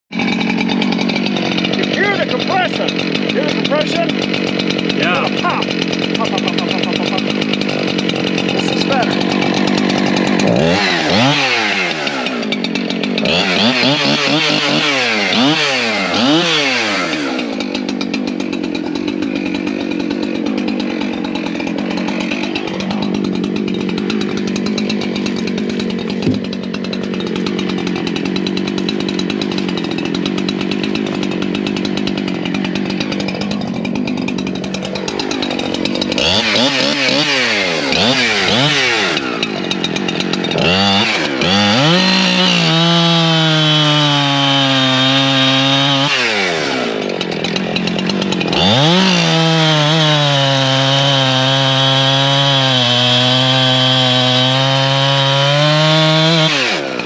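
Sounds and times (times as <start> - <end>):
chainsaw cutting through log: 0.1 - 57.0
chainsaw revving: 0.1 - 57.0.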